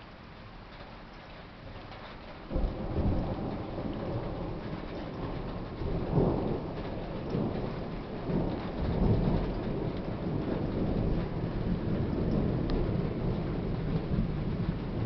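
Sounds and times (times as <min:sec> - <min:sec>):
heavy rain: 0:00.0 - 0:15.0
thunder rumbling: 0:01.6 - 0:15.0.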